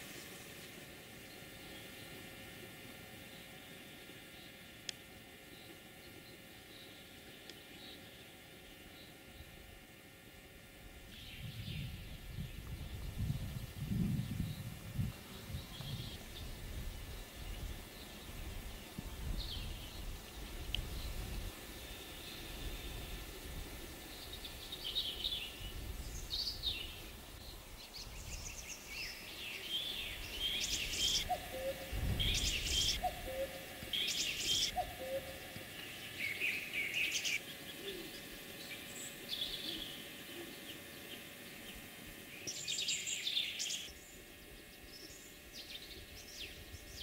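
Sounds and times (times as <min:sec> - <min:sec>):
birds singing and calling: 0:05.4 - 0:09.6, 0:11.0 - 0:47.0.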